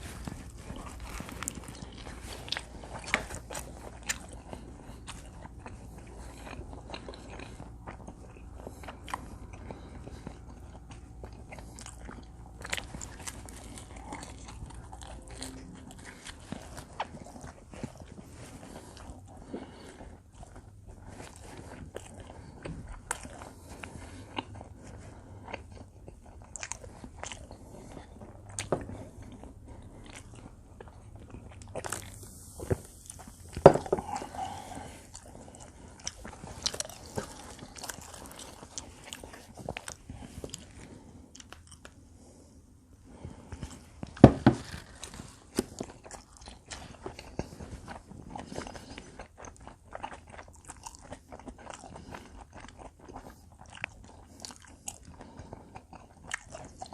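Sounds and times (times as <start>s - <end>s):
chewing pizza crust crunches: 0.0s - 42.4s, 43.1s - 56.9s.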